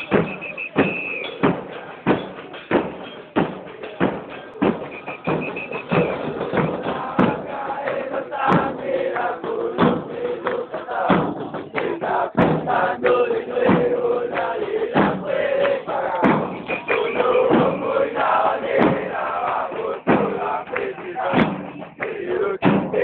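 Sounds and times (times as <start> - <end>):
crowd chanting: 0.0 - 23.0
loud rhythmic thumps: 0.0 - 23.0.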